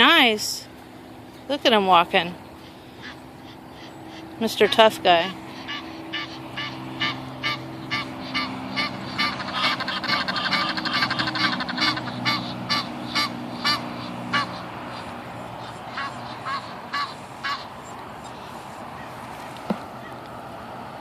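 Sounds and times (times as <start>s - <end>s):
geese honking: 1.9s - 19.2s.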